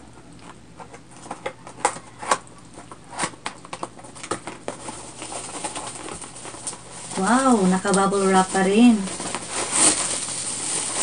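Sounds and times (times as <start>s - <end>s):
plastic wrapping crackling: 0.4s - 11.0s
cardboard box crackling: 0.8s - 11.0s.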